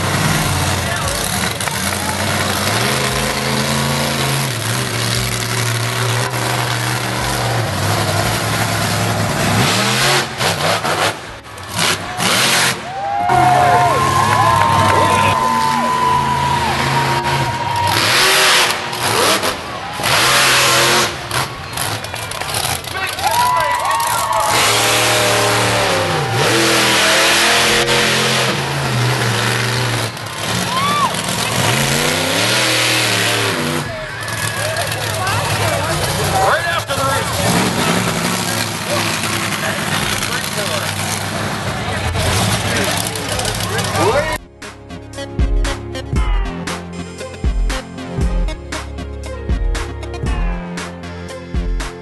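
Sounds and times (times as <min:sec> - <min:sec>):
monster truck engine revving: 0:00.0 - 0:47.3.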